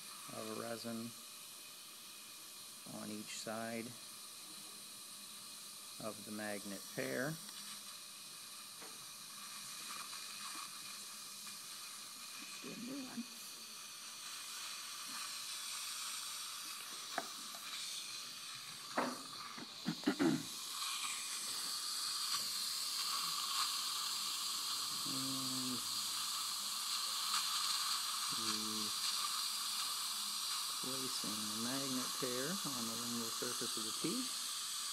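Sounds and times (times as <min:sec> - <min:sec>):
dental suction hissing: 0:00.0 - 0:34.9.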